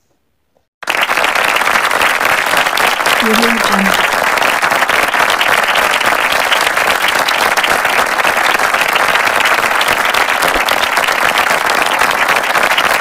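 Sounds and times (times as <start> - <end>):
crowd applause: 0.8 - 13.0.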